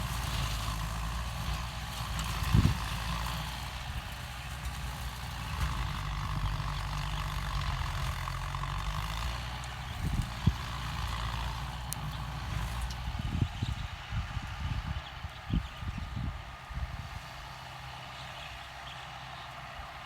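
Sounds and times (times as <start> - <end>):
rotary implement churning plants: 0.0 - 20.0
tractor diesel engine under load: 0.0 - 20.0.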